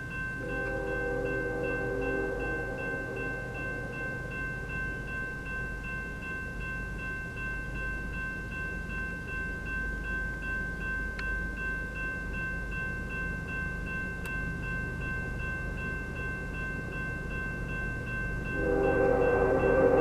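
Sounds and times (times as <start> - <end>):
freight train rumbling past: 0.0 - 9.4, 12.3 - 20.0
crossing bell ringing rapidly: 0.0 - 20.0.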